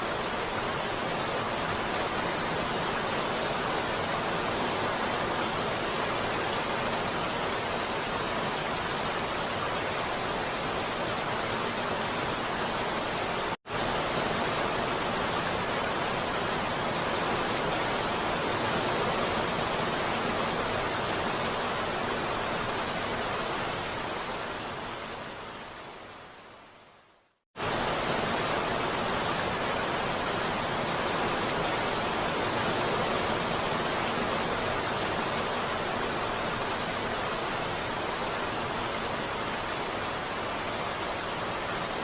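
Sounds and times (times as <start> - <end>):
heavy rain falling: 0.0 - 27.0, 27.6 - 42.0.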